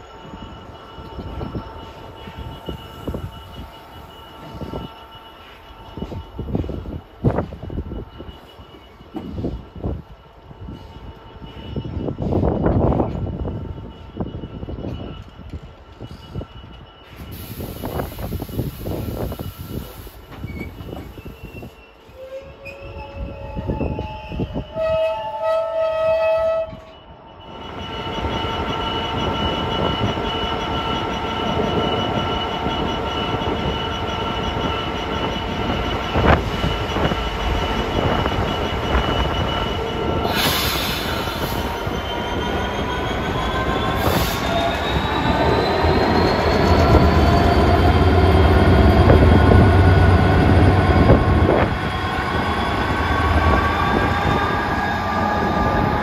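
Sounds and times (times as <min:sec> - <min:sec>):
train passing close by: 0:00.0 - 0:56.0.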